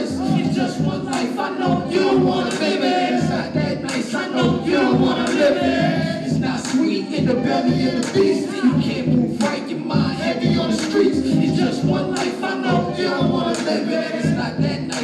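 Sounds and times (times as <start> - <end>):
backing beat: 0.0 - 15.0
rappers on microphones: 0.0 - 15.0.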